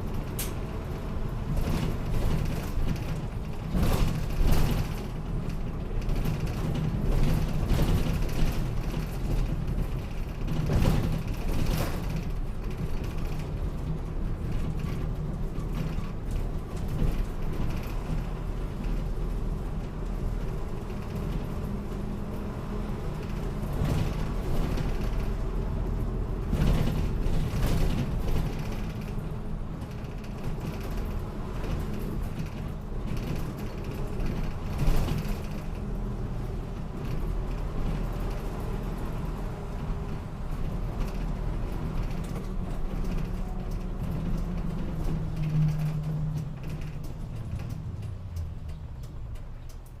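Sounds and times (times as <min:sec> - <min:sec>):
bus engine humming: 0:00.0 - 0:50.0
bus jolts: 0:00.0 - 0:50.0
creaks and rattles of bus body: 0:00.0 - 0:50.0.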